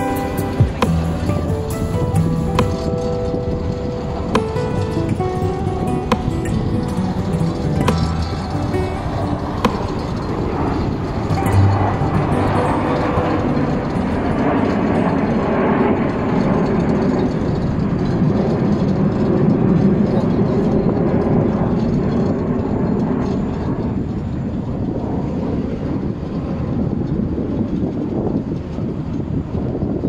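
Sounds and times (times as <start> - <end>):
jet engines roaring past: 0.0 - 30.0.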